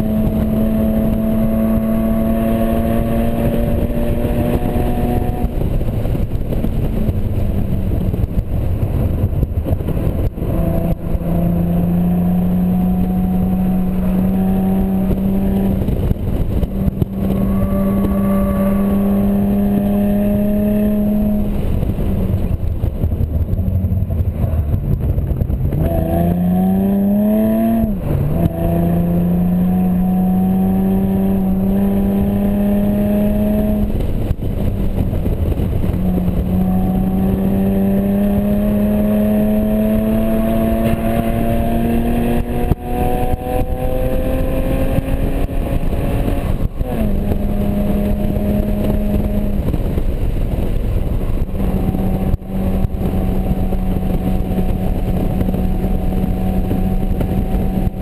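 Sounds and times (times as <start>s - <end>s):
car engine running hard: 0.0s - 58.0s
rushing wind noise: 0.0s - 58.0s.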